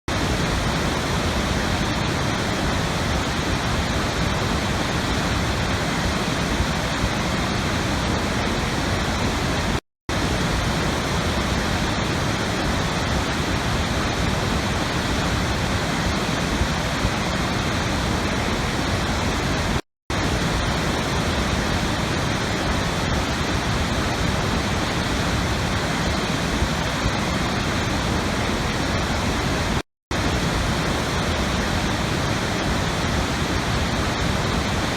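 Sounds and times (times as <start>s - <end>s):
steady rushing noise: 0.1s - 34.9s.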